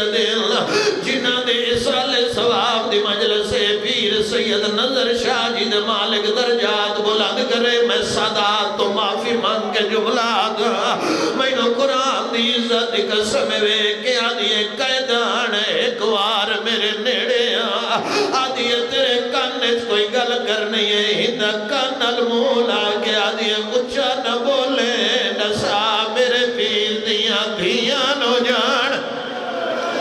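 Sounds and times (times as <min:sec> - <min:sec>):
man chanting a mournful lament: 0:00.0 - 0:29.3.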